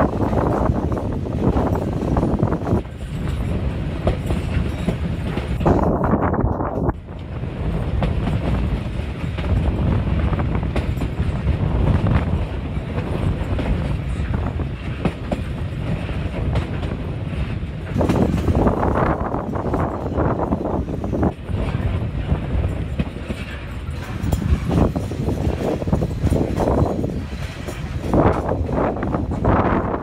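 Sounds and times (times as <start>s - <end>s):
train wheels rumbling on rails: 0.0s - 30.0s
wheels clicking over rail joints: 0.0s - 30.0s.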